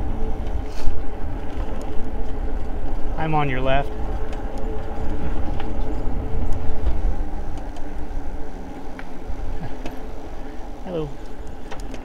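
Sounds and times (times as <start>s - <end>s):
bike tyres rolling on pavement: 0.0s - 12.0s
faint steady whine: 0.0s - 12.0s
wind rumbling on microphone: 0.0s - 12.0s.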